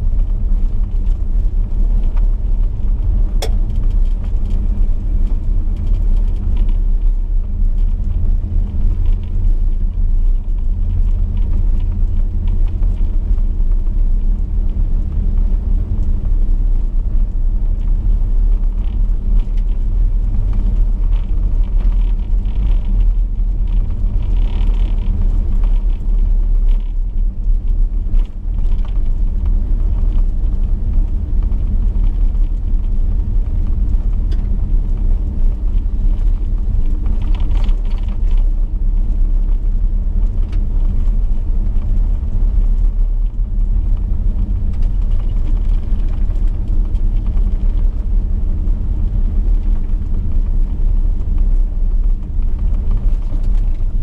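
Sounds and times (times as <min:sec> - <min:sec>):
car engine drone: 0:00.0 - 0:54.0
tyres rumbling on gravel: 0:00.1 - 0:54.0.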